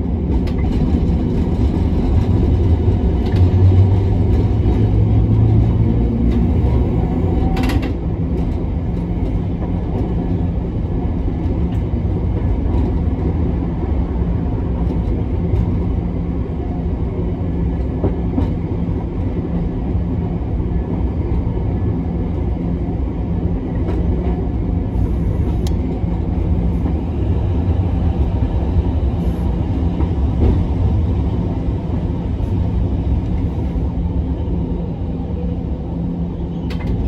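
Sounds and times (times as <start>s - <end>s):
tram wheels rumbling on rail: 0.0s - 37.0s.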